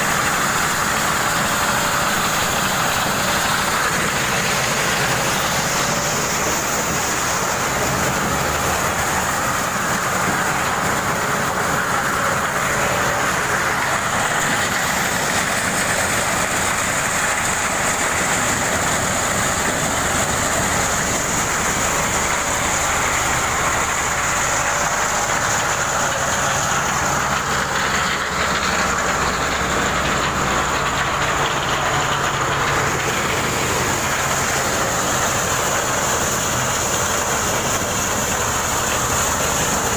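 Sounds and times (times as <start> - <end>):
low engine drone: 0.0 - 39.9
threshing drum mechanical noise: 0.0 - 39.9.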